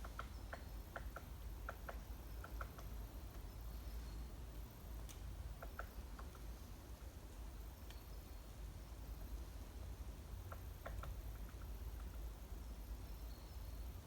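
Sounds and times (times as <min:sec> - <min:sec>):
thin high distant bird calls: 0:00.0 - 0:14.0.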